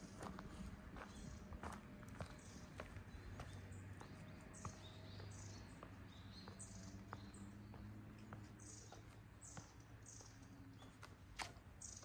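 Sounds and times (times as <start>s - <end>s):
footsteps on a path: 0.0s - 12.0s
small birds chirping: 0.0s - 12.0s.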